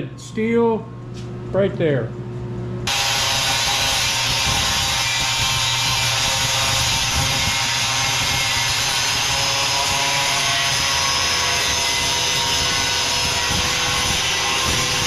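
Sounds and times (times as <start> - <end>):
angle grinder on steel: 2.9 - 15.0.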